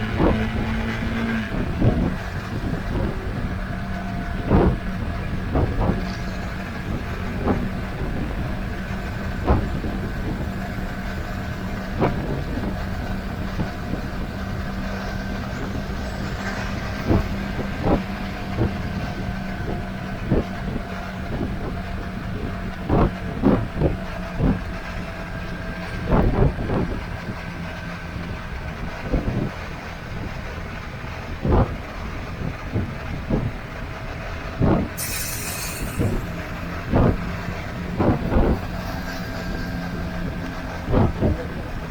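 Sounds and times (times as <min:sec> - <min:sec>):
road and wind noise: 0:00.0 - 0:41.9.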